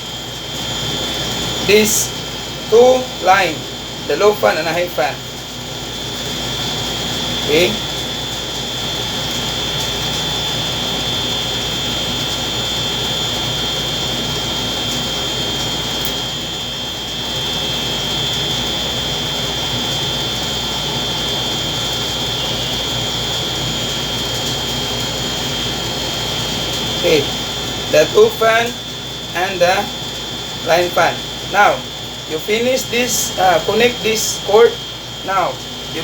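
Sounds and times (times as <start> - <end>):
machine hiss and high whine: 0.0 - 36.0.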